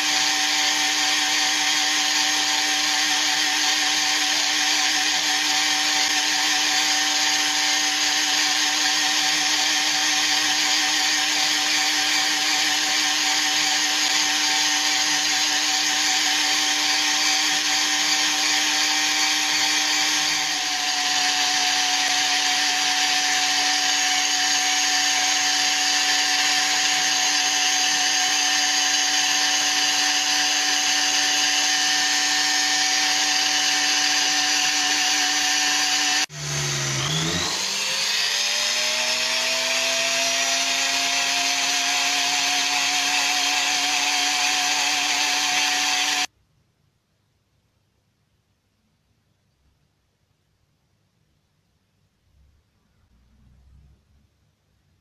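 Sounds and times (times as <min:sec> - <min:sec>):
rotary tool motor whine: 0:00.0 - 0:46.3.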